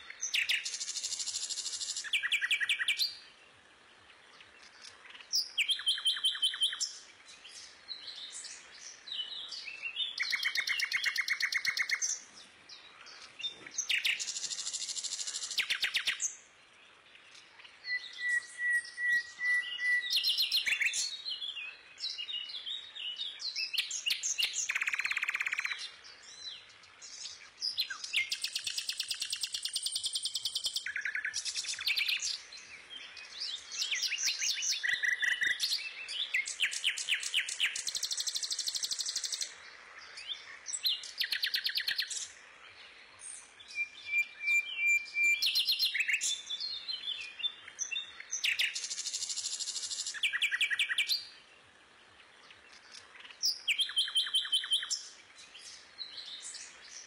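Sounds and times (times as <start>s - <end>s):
small bird chirping and trilling: 0.0s - 3.3s, 4.4s - 16.4s, 17.1s - 51.4s, 52.5s - 57.0s.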